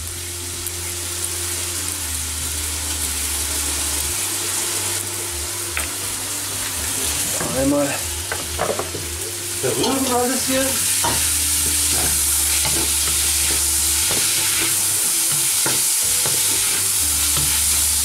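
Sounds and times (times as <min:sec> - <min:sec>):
chicken and onion sizzling: 0:00.0 - 0:18.0.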